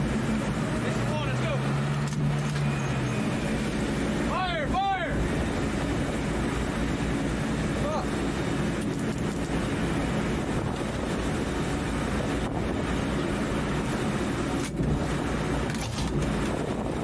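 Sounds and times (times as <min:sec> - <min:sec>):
boat engine drone: 0:00.0 - 0:17.0
rushing wind and water: 0:00.0 - 0:17.0.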